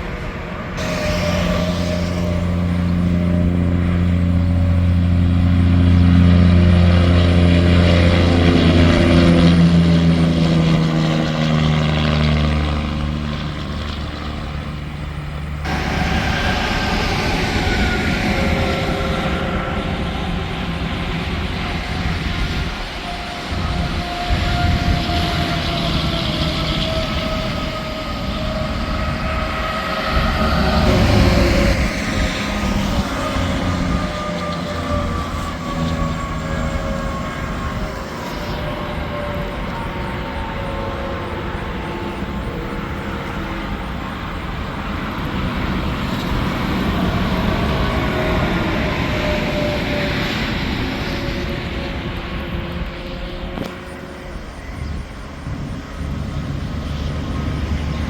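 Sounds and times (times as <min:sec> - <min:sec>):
highway traffic rush: 0:00.0 - 0:58.0
truck engine passing: 0:00.6 - 0:58.0
faint whining tones: 0:00.8 - 0:58.0.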